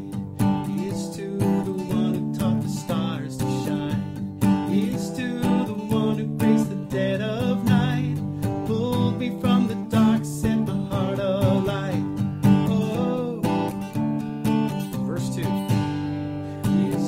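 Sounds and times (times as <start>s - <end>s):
person singing: 0.0s - 13.8s, 14.8s - 15.7s, 16.4s - 17.0s
strummed acoustic guitar: 0.0s - 17.0s.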